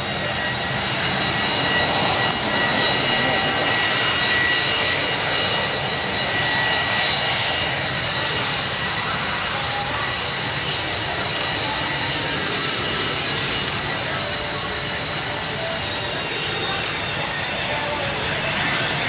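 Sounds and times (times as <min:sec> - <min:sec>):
jet engines roaring with whine: 0:00.0 - 0:19.0.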